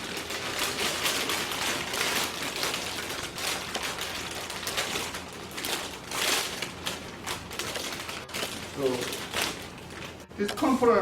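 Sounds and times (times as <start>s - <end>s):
crackling noodle package: 0.0s - 10.3s.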